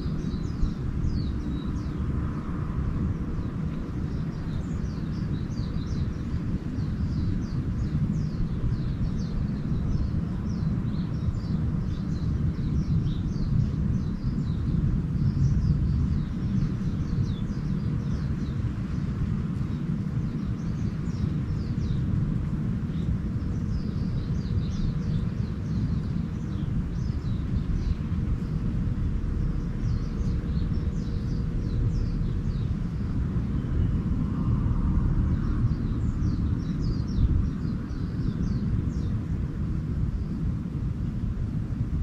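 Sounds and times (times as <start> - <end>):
small birds chirping: 0.0 - 42.0
steady low rumble: 0.0 - 42.0.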